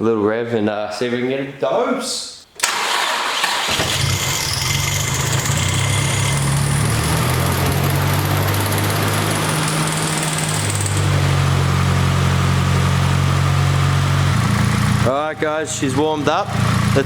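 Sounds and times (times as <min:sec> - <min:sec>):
car engine starting and idling: 0:02.6 - 0:17.0.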